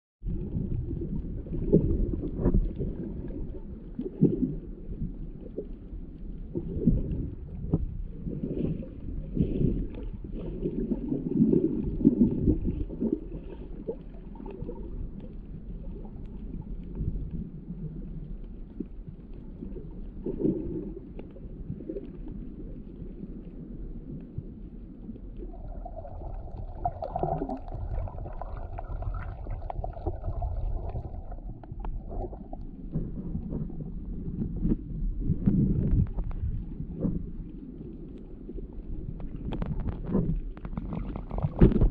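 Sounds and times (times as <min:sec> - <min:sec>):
underwater rumbling and gurgling: 0:00.2 - 0:41.9.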